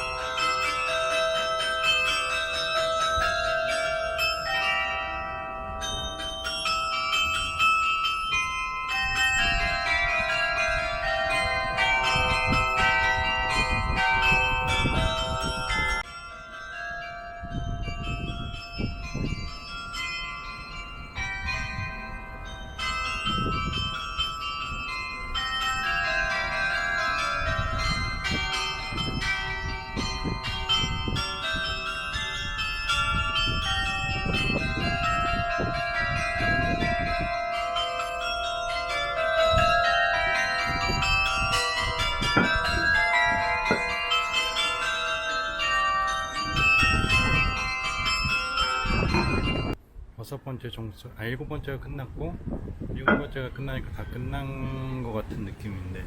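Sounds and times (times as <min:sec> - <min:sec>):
carillon bells playing tune: 0:00.0 - 0:49.8.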